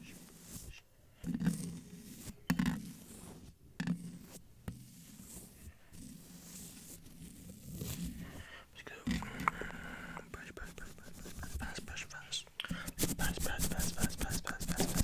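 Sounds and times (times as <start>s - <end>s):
brushing against microphone: 0.0s - 15.0s.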